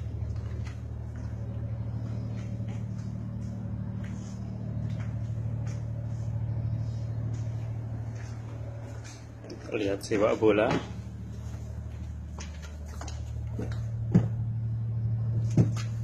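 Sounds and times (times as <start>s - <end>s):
ship engines droning: 0.0s - 16.0s.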